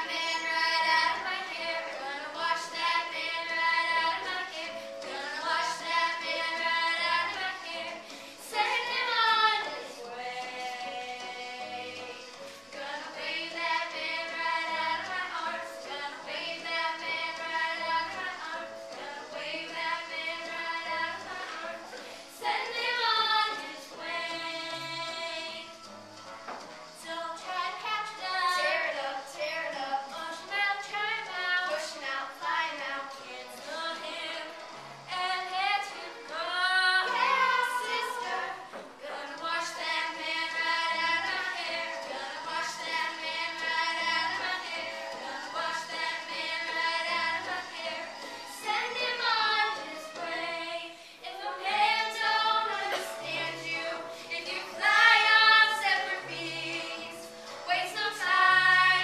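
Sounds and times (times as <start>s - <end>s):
girls singing show tune: 0.0s - 59.0s.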